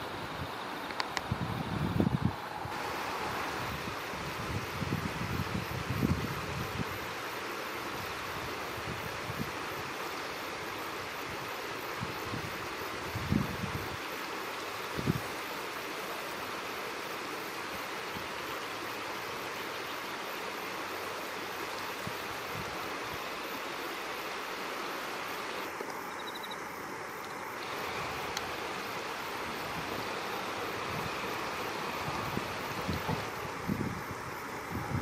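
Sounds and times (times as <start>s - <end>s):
rushing outdoor background noise: 0.0s - 35.0s.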